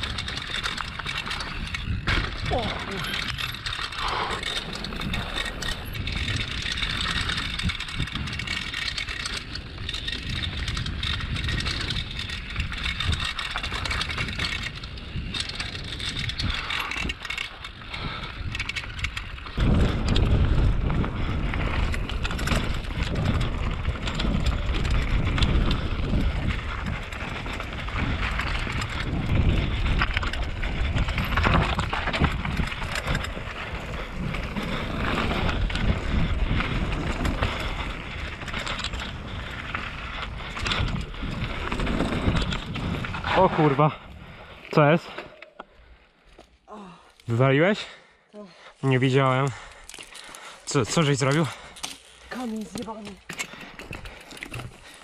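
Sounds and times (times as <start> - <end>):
bike clattering and rattling: 0.0 - 48.0, 48.8 - 55.0
bike tyres crunching over gravel: 0.0 - 48.0, 48.6 - 55.0.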